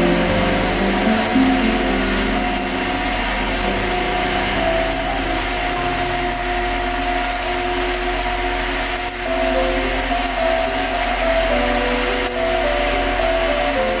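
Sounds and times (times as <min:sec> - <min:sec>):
background music held notes: 0:00.0 - 0:14.0
welding arc hissing: 0:00.0 - 0:14.0.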